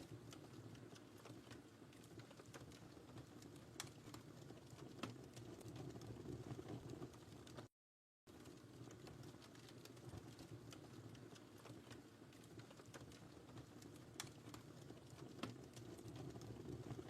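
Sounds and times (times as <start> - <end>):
low rumble of flames: 0.0 - 7.7, 8.3 - 17.0
fire popping and snapping: 0.1 - 7.7, 8.3 - 17.0.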